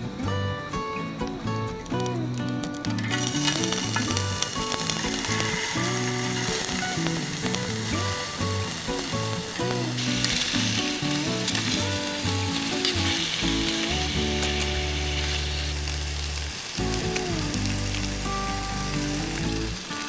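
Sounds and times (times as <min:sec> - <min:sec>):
wood fire crackling and popping: 0:00.0 - 0:20.0
slow melodic background music: 0:00.2 - 0:20.0.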